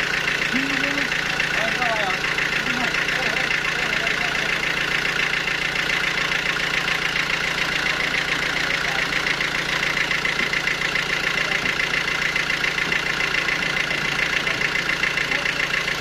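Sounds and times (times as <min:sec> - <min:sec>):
sawmill machinery pulsing: 0:00.0 - 0:16.0.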